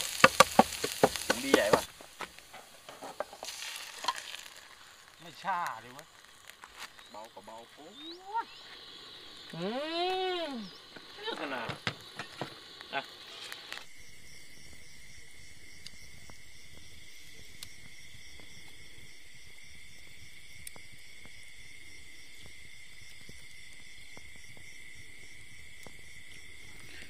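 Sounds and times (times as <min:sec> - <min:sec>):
campfire crackles: 0:00.0 - 0:27.0
insects trilling: 0:00.0 - 0:27.0.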